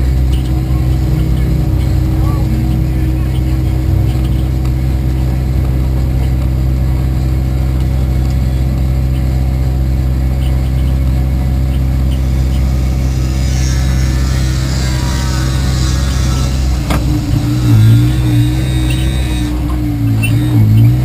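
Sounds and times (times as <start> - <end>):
race car engine droning: 0.0 - 21.0.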